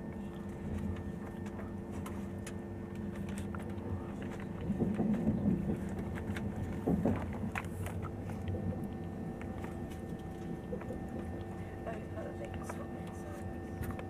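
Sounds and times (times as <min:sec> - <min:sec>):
constant multi-tone hum: 0:00.0 - 0:14.0
train carriage low rumble: 0:00.0 - 0:14.0.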